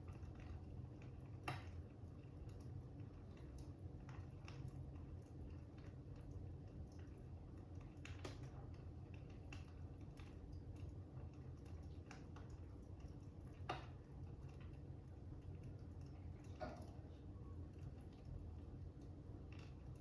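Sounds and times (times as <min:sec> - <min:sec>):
fire crackling and popping: 0:00.1 - 0:16.5.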